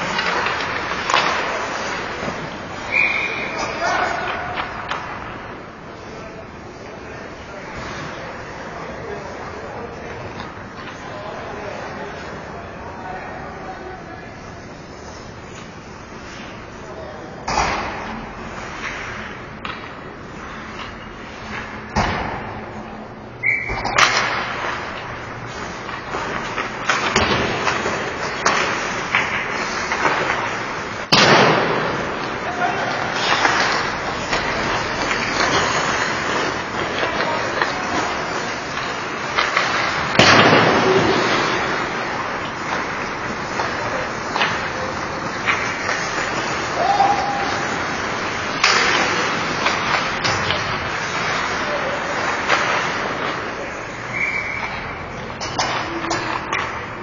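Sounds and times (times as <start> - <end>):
hockey sticks and puck clacking: 0.0 - 57.0
ice rink noise: 0.0 - 57.0.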